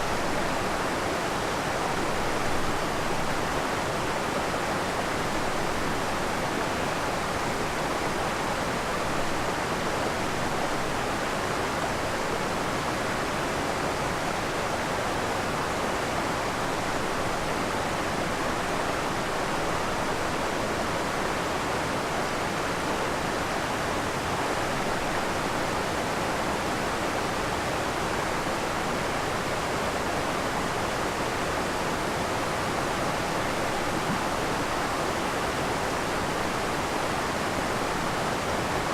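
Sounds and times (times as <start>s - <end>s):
waterfall pouring and splashing: 0.0s - 38.9s.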